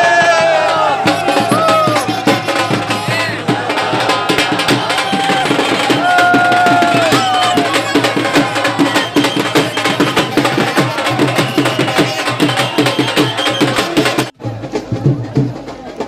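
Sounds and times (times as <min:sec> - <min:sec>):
loud music with fast drumming: 0:00.0 - 0:16.0.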